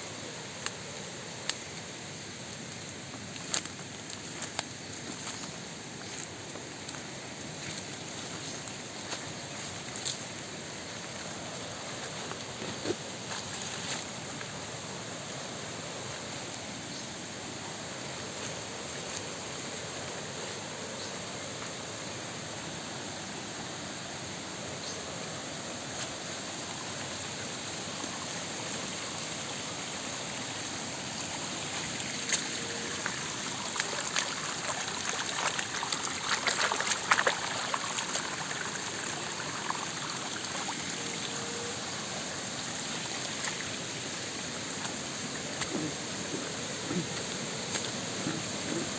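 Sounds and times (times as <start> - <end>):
creek flowing: 0.0 - 48.9
water splashes and crackles: 0.0 - 48.9.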